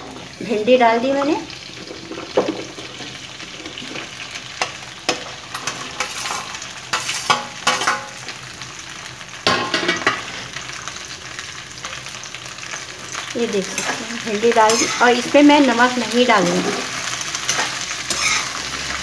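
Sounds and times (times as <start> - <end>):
okra sizzling in hot oil: 0.0 - 19.0.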